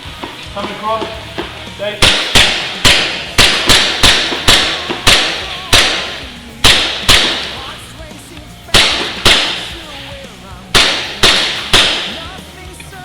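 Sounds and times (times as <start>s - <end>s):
airsoft gun shots: 0.6s - 7.8s, 8.7s - 12.4s.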